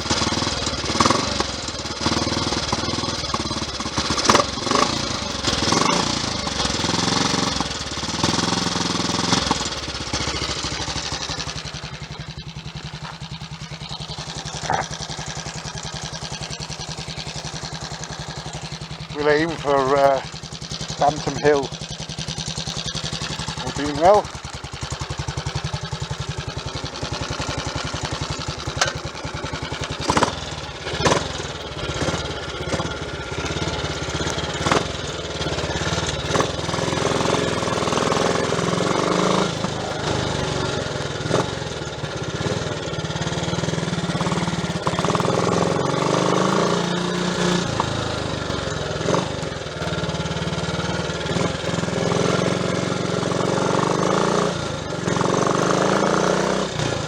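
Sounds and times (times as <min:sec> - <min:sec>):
sharp engine knocks: 0:00.0 - 0:54.4
single-cylinder engine running: 0:00.0 - 0:57.0.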